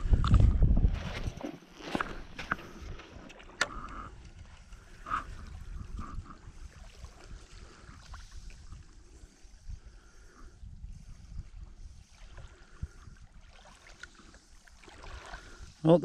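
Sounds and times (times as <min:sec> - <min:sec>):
wind rumble on microphone: 0:00.0 - 0:13.5
water lapping on shoreline: 0:01.0 - 0:16.0.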